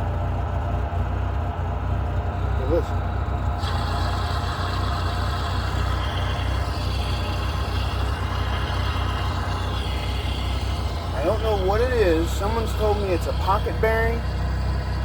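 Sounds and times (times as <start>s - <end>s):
vehicle engine idling: 0.0s - 15.0s
transmission bearing noise: 2.0s - 15.0s.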